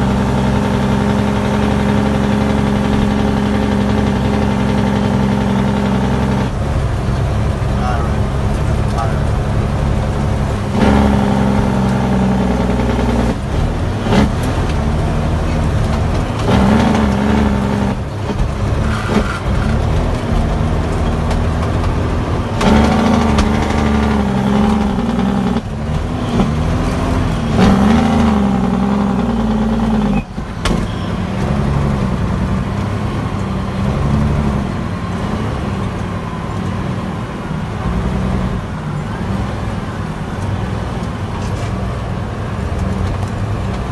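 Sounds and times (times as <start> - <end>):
diesel truck engine revving: 0.0 - 43.9.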